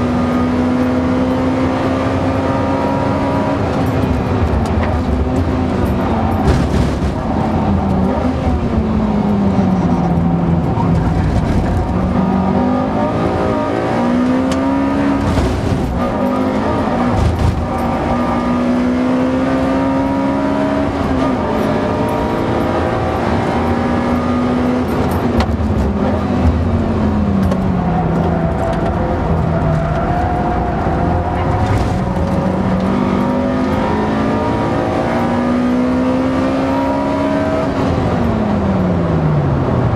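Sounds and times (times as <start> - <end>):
car engine revving through gears: 0.0 - 39.9.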